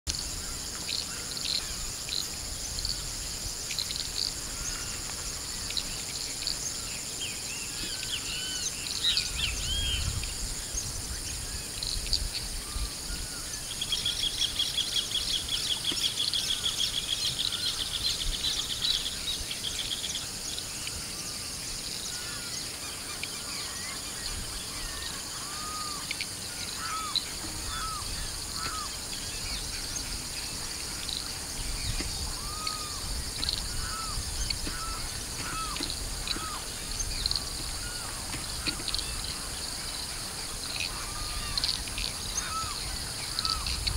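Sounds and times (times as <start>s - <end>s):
birds calling and singing: 0.1s - 43.9s
high-pitched insect drone: 0.1s - 43.9s.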